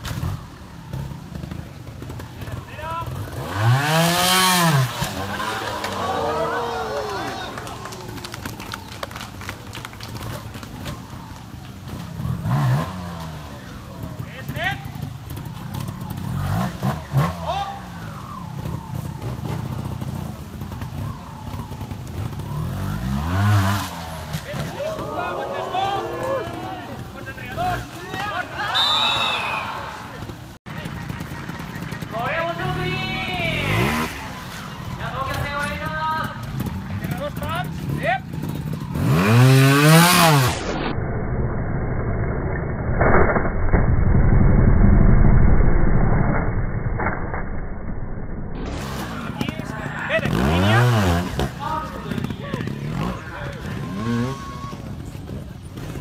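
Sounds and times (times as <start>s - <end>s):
motorcycle engine revving: 0.0s - 9.0s, 10.2s - 40.9s, 48.3s - 56.0s.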